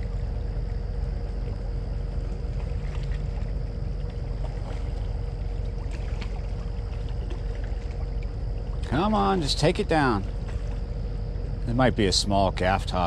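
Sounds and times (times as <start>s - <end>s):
faint steady hum: 0.0s - 13.0s
river rumble and hiss: 0.0s - 13.0s.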